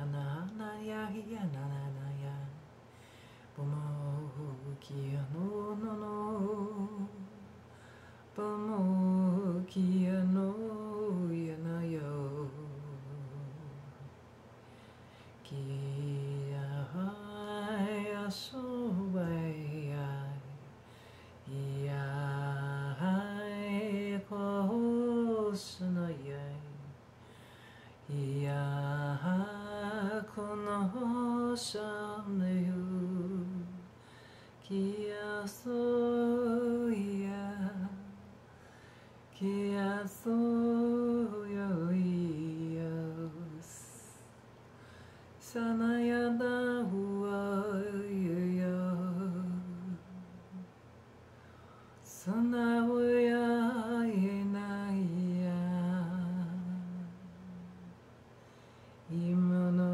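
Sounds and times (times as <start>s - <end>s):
woman singing wordless chant: 0.0s - 14.2s, 15.2s - 50.8s, 51.9s - 58.1s, 59.0s - 59.9s.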